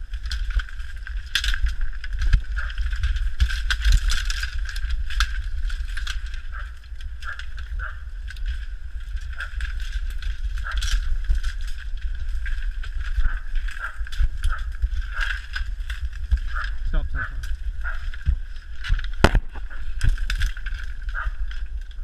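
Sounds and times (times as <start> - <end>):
bamboo canes rustling and clacking: 0.0 - 22.0
microphone handling rumble: 0.0 - 22.0.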